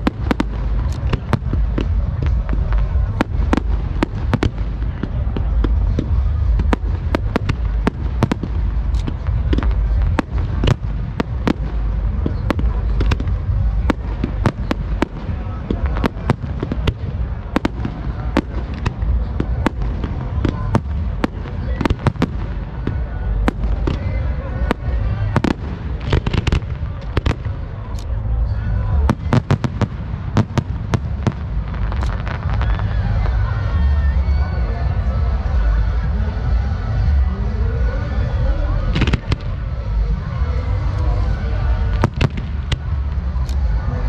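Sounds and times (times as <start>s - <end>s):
fireworks bursting bangs: 0.0s - 44.0s
low rumble: 0.0s - 44.0s.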